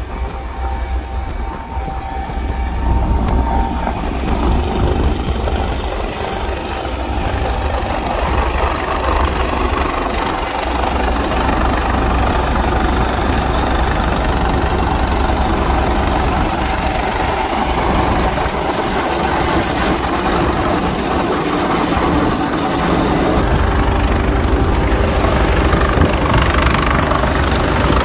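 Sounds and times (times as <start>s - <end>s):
heavy low rumble: 0.0s - 28.0s
helicopter rotor and turbine: 0.0s - 28.0s.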